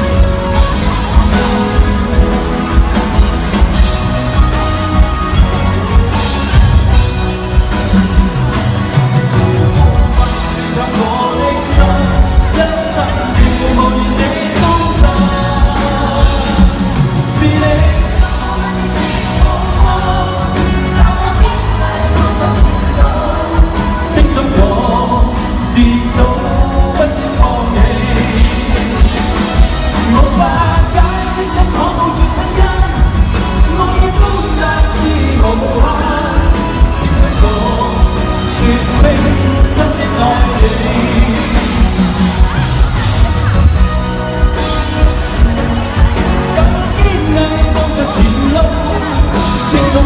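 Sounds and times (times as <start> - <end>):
live pop band playing: 0.0 - 50.0
man singing: 0.0 - 50.0.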